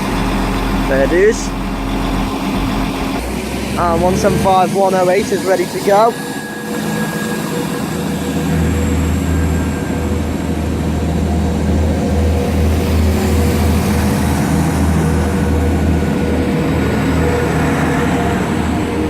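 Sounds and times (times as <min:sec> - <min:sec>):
train diesel engines humming: 0:00.0 - 0:19.0.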